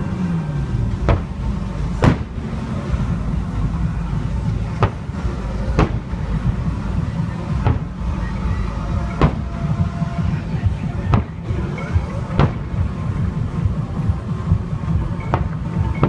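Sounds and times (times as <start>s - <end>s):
continuous low rumble: 0.0s - 16.0s
fireworks bursting: 0.1s - 13.3s.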